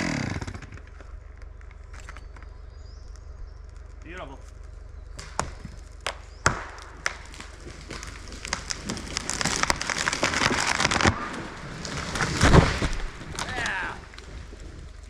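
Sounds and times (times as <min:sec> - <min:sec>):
branches cracking and snapping: 0:00.0 - 0:15.0
low engine hum: 0:00.0 - 0:15.0.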